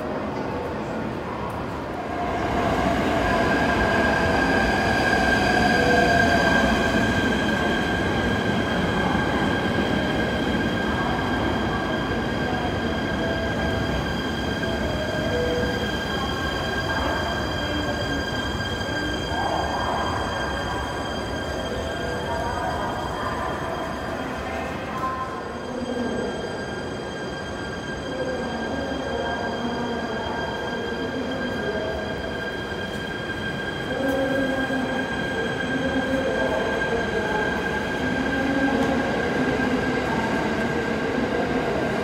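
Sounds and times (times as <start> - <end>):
train wheels whine and squeal: 1.9 - 42.0.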